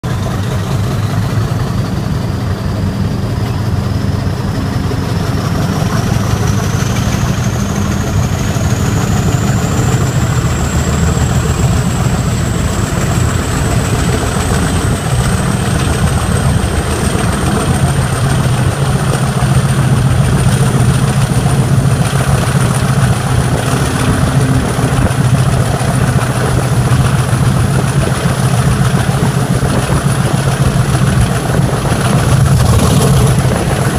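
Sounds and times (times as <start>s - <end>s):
diesel locomotive engine: 0.0s - 33.9s.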